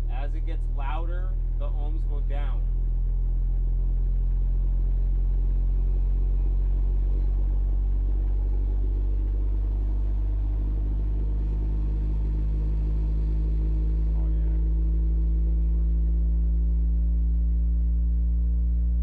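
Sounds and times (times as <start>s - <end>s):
subwoofer deep bass tone: 0.0s - 19.0s.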